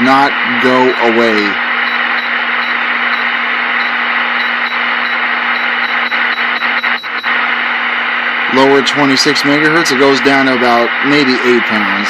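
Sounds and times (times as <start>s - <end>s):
low steady hum: 0.0s - 12.0s
radio static hiss: 0.0s - 12.0s.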